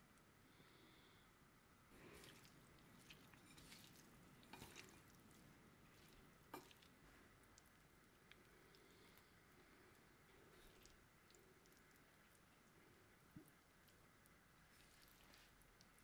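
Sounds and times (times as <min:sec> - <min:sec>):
wet squishing of noodles: 0:01.9 - 0:16.0.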